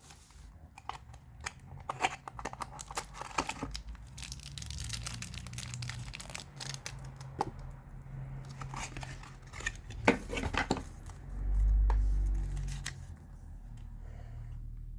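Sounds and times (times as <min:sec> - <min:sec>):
plastic and cardboard packaging rustling: 0:00.0 - 0:13.3.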